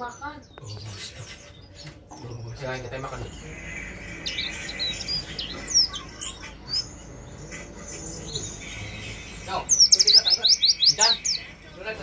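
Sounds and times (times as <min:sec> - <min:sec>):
bird twittering harshly: 0:00.0 - 0:11.5.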